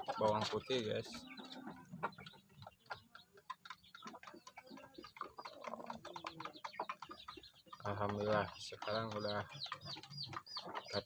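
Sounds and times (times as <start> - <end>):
faint clicking and tapping: 0.0 - 11.0.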